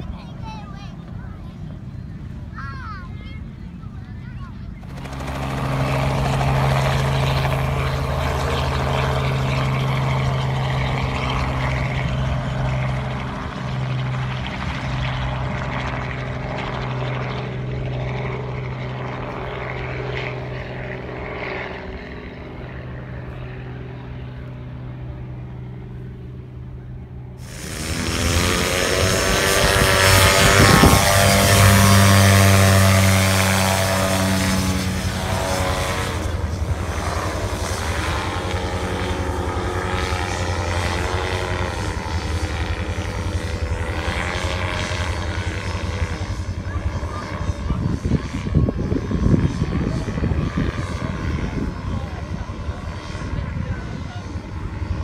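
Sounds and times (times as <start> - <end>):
helicopter flying: 0.0 - 55.0
paramotor propeller engine: 0.0 - 55.0.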